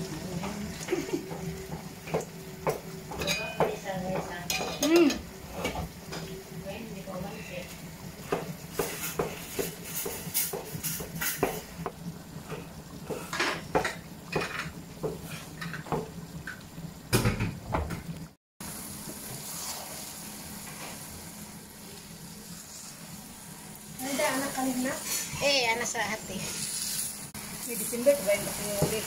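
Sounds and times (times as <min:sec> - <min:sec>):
boiling syrup hissing: 0:00.0 - 0:29.0.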